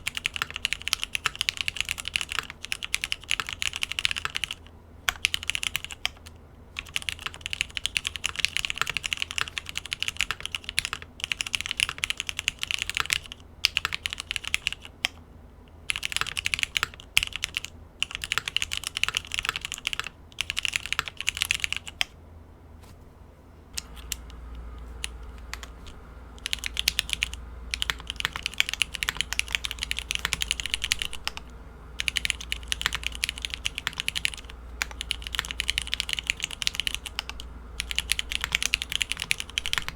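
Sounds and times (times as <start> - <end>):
mechanical keyboard typing: 0.0 - 15.2, 15.9 - 22.2, 23.8 - 39.9
low steady hum: 0.0 - 39.9.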